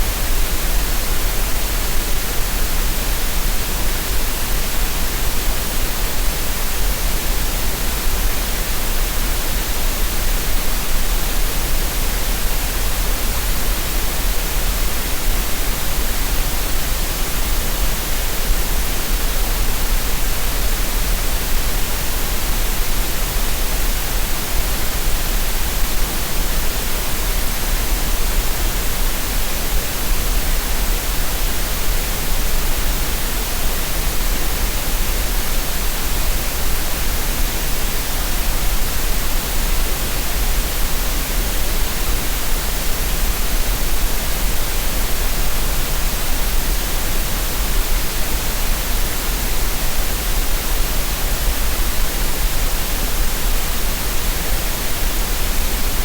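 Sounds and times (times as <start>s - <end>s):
steady green noise hiss: 0.0s - 56.0s.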